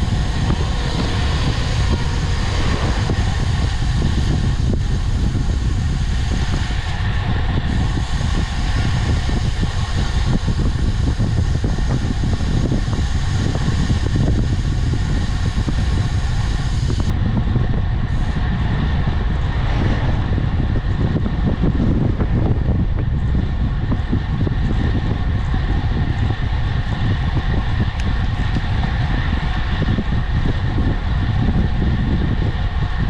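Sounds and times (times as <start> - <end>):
tyre and road noise: 0.0 - 33.0
wind buffeting microphone: 0.0 - 33.0.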